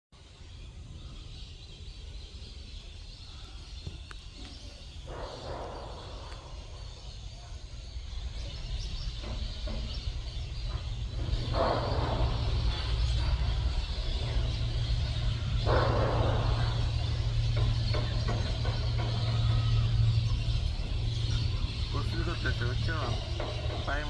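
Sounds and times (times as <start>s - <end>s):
waterbirds calling: 0.3s - 24.0s
low rumble: 2.7s - 24.0s.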